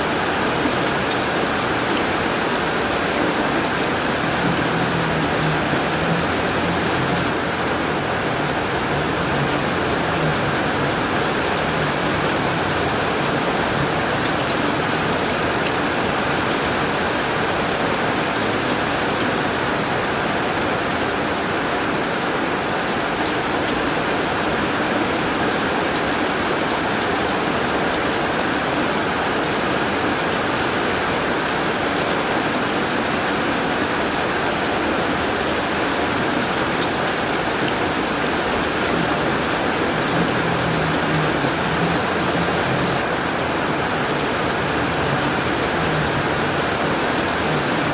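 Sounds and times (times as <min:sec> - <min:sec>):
heavy rain on a tin roof: 0:00.0 - 0:47.9.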